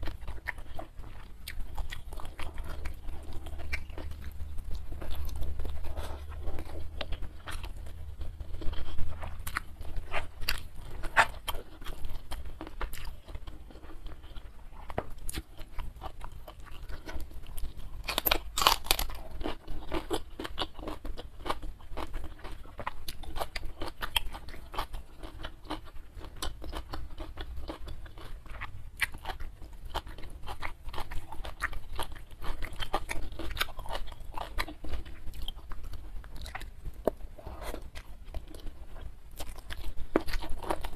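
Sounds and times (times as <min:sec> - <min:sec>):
chewing and crunching: 0:00.0 - 0:40.9.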